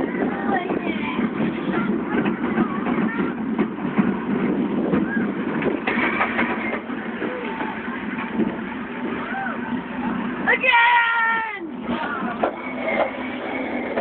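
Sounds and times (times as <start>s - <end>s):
roller coaster rattling on track: 0.0s - 14.0s.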